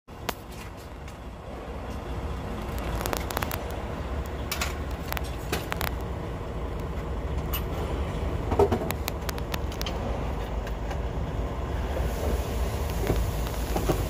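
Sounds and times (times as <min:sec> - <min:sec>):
diesel truck engine idling: 0:00.1 - 0:14.0.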